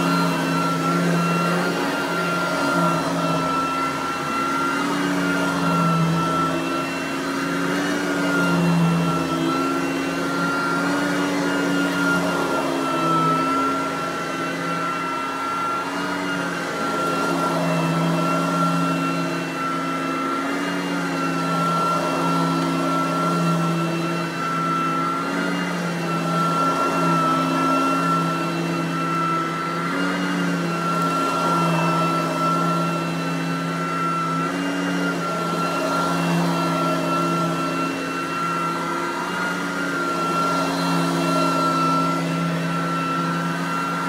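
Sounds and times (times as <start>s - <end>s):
vacuum cleaner motor whine: 0.0s - 44.0s.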